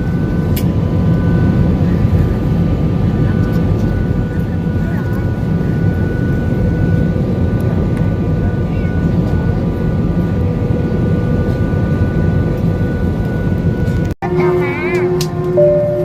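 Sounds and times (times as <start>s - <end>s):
airliner engine and airflow rumble: 0.0s - 16.0s.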